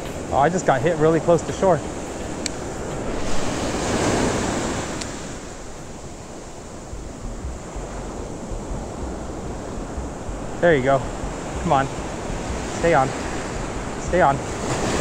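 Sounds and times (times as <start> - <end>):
ocean surf washing: 0.0 - 15.0.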